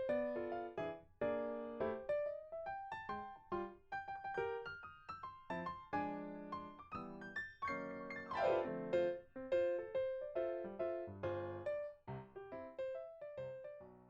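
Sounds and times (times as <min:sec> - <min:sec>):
light bouncy piano tune: 0:00.0 - 0:14.0.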